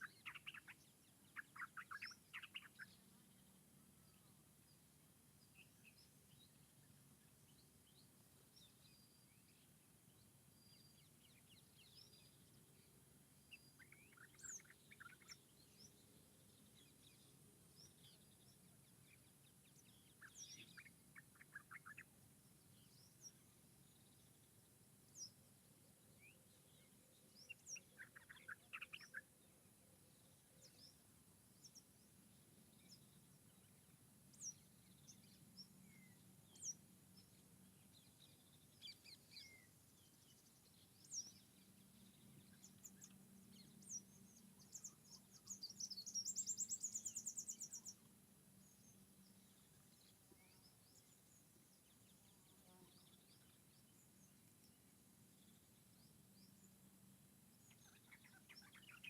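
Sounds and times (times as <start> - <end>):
faint low hum: 0.0 - 59.0
small songbirds chirping: 0.0 - 59.0.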